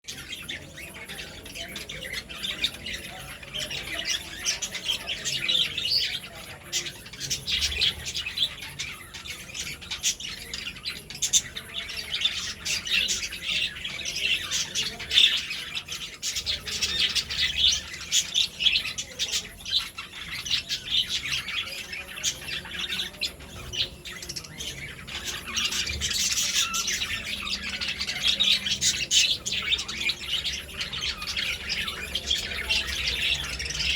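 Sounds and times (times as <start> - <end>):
birds calling: 0.0 - 33.9.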